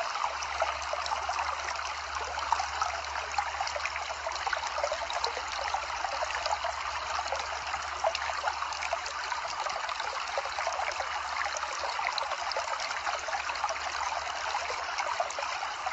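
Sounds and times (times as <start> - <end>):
water trickling and splashing: 0.0 - 15.9.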